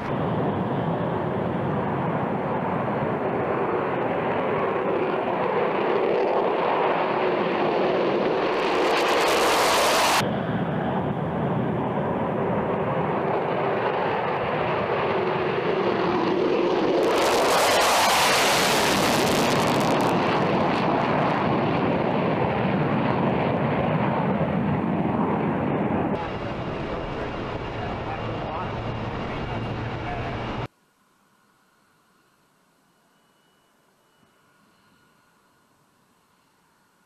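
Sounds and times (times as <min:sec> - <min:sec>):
jet engines at takeoff power: 0:00.0 - 0:30.7.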